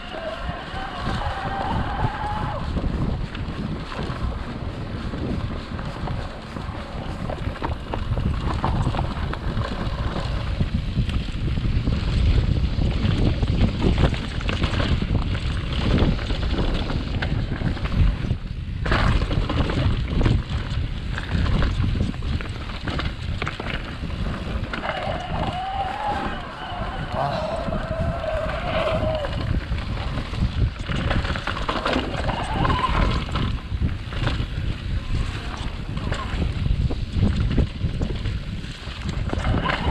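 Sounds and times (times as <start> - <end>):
bicycle rolling on rough trail: 0.0 - 39.9
bike tyres rumbling: 0.0 - 39.9
wind buffeting microphone: 0.0 - 39.9.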